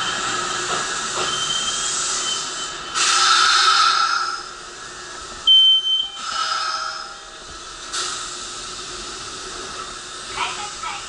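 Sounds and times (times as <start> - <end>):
train hiss: 0.0 - 5.5, 6.2 - 11.0.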